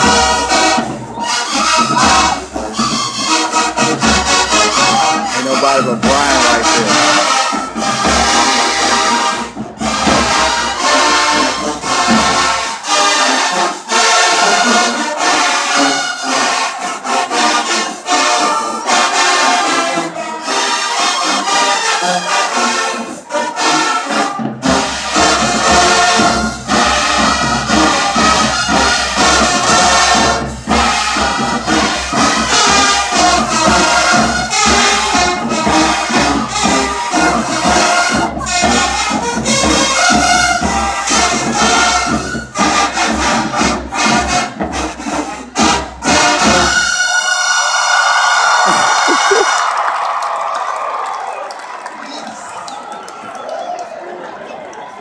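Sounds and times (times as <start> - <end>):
drums: 0.0 - 47.2, 48.6 - 49.6
brass instruments: 0.0 - 51.8.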